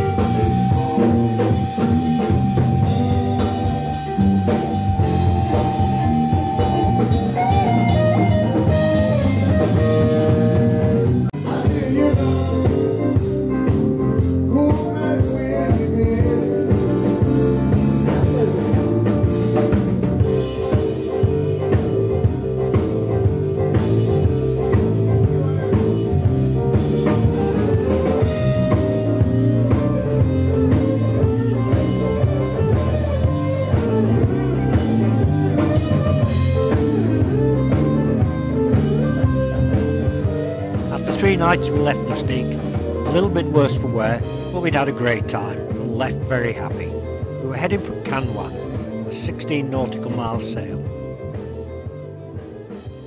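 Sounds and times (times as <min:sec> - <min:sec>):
live blues band playing: 0:00.0 - 0:53.0.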